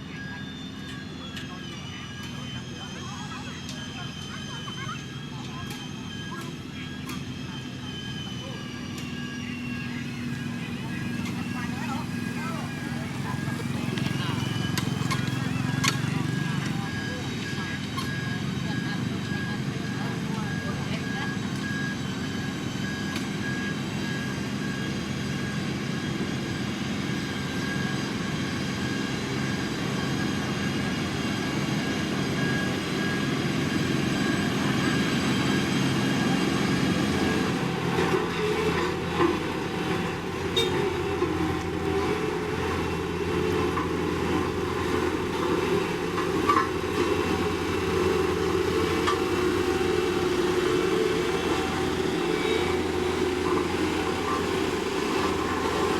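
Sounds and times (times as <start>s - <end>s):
diesel machinery running: 0.0s - 55.9s
high reversing beep: 0.0s - 55.9s.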